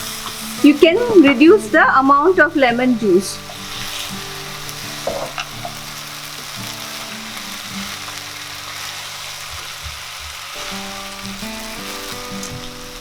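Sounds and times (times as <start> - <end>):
background music: 0.0 - 13.0
rice sizzling in a pan: 0.0 - 13.0.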